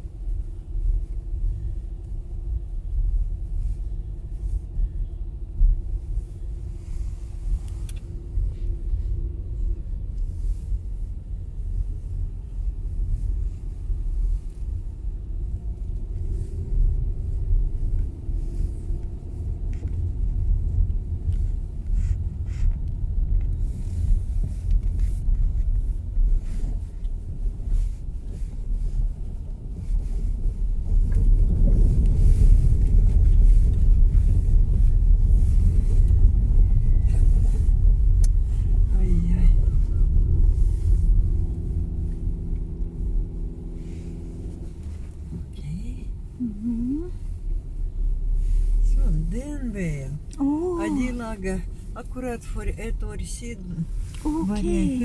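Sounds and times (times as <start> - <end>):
car interior road noise: 0.0 - 55.0.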